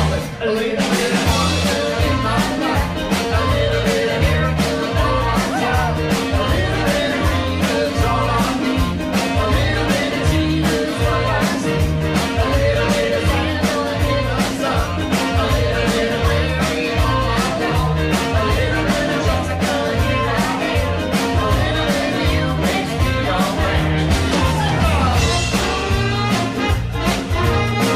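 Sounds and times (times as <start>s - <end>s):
person singing: 0.0s - 27.9s
upbeat dance music: 0.0s - 27.9s.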